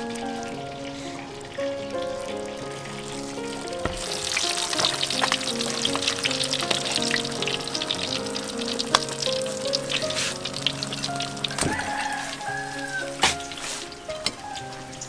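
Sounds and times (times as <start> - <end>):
background music: 0.0 - 15.0
fish frying in hot oil: 0.0 - 15.0.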